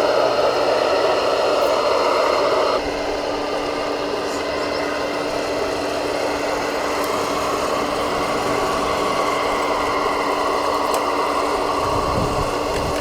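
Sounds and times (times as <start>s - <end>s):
electric motor whine and hum: 0.0s - 13.0s.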